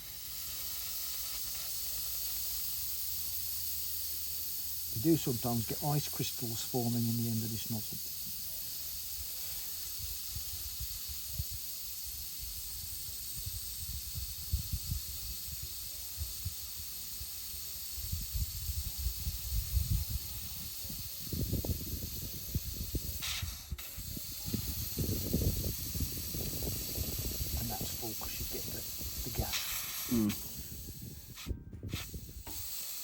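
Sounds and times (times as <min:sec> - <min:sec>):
gas hissing from nozzle: 0:00.0 - 0:33.0.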